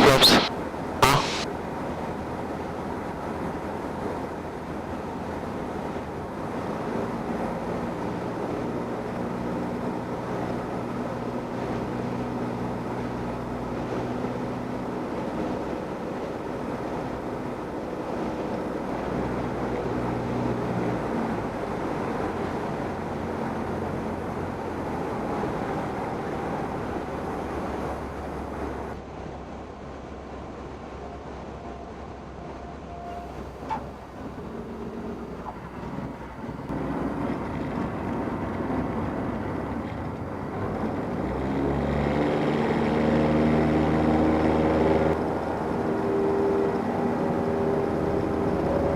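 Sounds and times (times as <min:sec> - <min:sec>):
small plane engine drone: 0:00.0 - 0:48.9.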